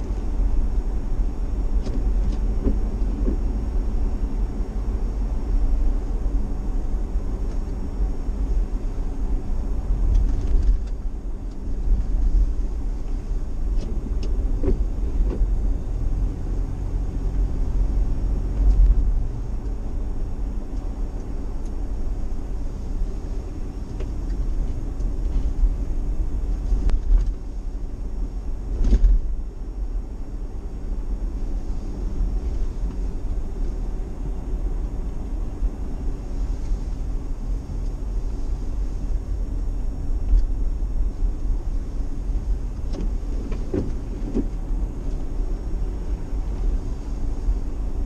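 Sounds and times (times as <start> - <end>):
engine and road rumble: 0.0 - 48.0.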